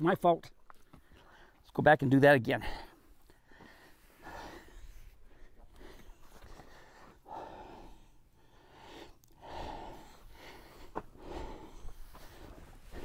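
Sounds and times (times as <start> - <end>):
slow heavy breathing: 0.7 - 1.7, 2.6 - 13.0.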